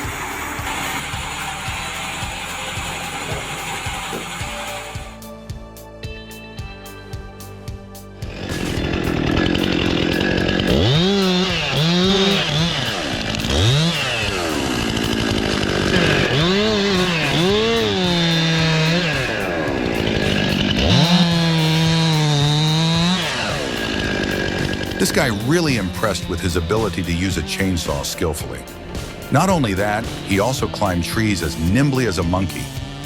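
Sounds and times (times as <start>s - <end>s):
chainsaw engine revving: 0.0s - 5.3s, 8.2s - 33.0s.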